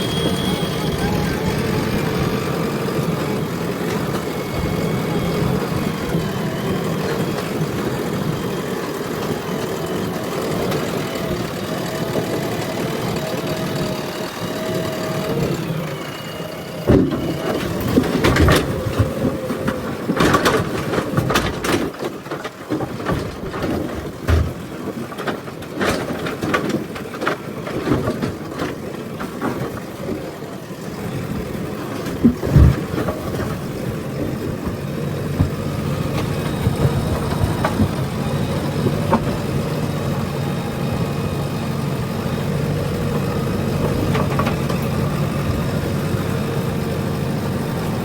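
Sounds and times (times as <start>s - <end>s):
hydraulic whine: 0.0s - 21.3s, 30.6s - 48.0s
diesel engine running: 0.0s - 48.0s.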